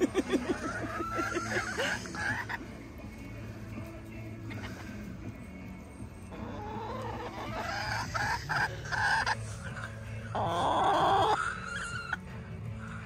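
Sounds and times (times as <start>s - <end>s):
hens clucking and squawking: 0.0s - 13.0s.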